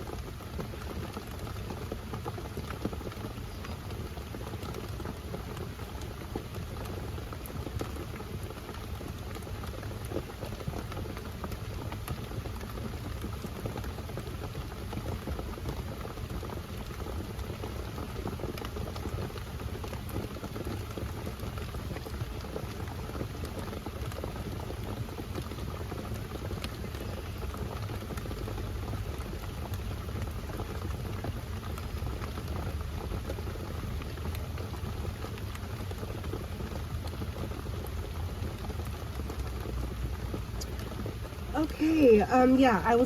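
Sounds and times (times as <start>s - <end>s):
rain drops ticking on camper: 0.0s - 43.0s.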